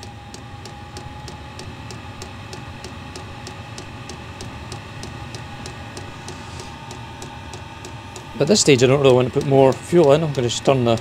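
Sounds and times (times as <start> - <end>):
blower fan whirring: 0.0 - 11.0
fuel pump ticking: 0.0 - 11.0
thin steady whine: 0.0 - 11.0.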